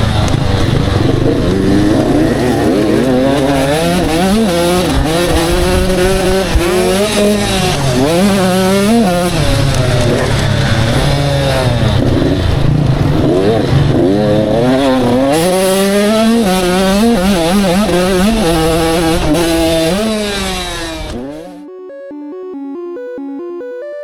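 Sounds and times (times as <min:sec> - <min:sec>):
motocross bikes revving: 0:00.0 - 0:21.6.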